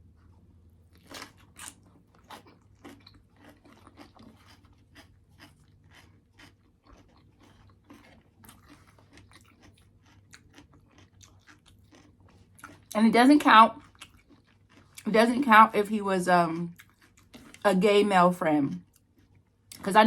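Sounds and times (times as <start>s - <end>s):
crunchy chewing: 0.1s - 13.0s, 13.7s - 15.1s, 16.7s - 17.7s, 18.8s - 19.8s.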